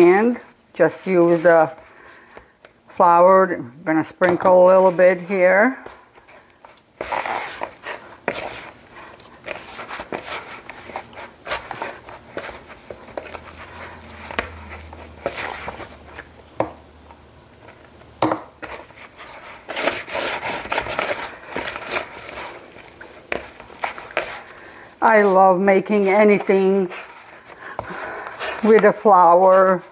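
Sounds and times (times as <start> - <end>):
dough squishing and slapping: 0.0 - 16.8, 18.2 - 29.9.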